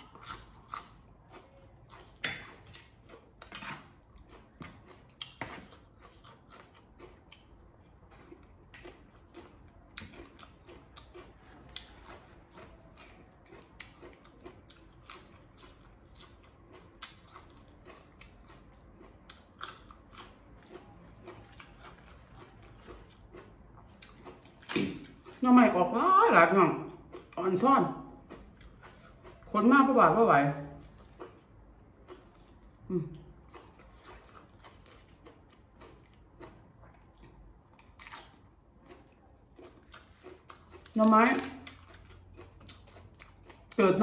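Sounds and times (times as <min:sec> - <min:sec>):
person chewing crunchy food: 0:00.0 - 0:25.4, 0:26.8 - 0:27.4, 0:28.0 - 0:29.5, 0:30.6 - 0:43.8.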